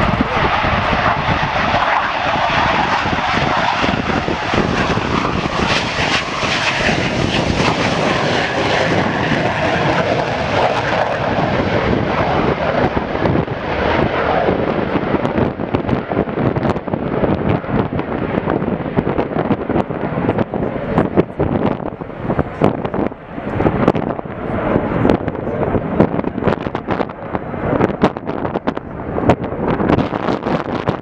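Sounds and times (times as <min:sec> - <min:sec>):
jet engine roaring: 0:00.0 - 0:31.0.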